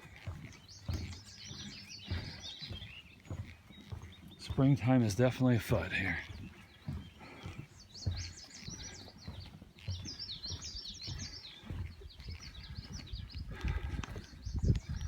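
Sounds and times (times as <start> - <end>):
footsteps on wooden boardwalk: 0.0 - 15.0
songbirds chirping: 0.0 - 15.0.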